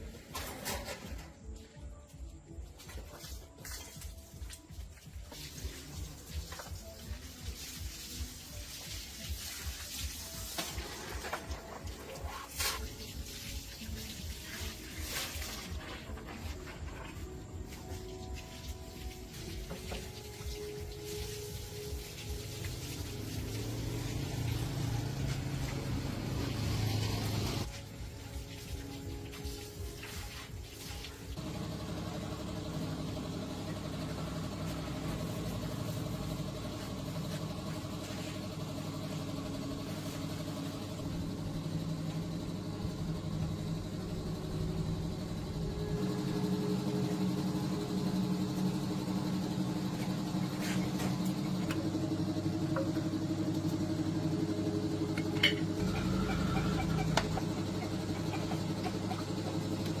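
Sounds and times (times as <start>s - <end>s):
tractor engine idling: 10.4s - 60.0s.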